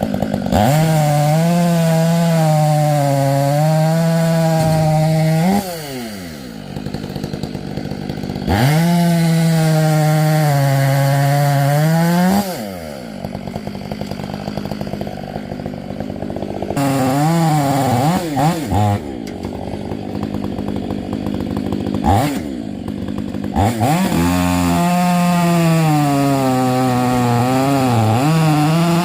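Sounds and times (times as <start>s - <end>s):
chainsaw revving and idling: 0.0s - 29.0s.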